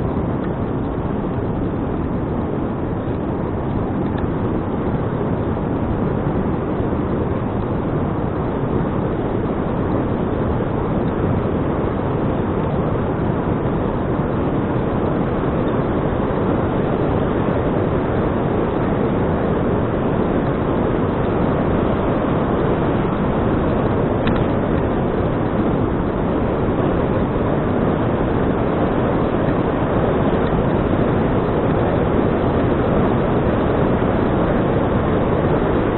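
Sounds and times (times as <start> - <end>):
wind rushing on microphone: 0.0 - 35.9.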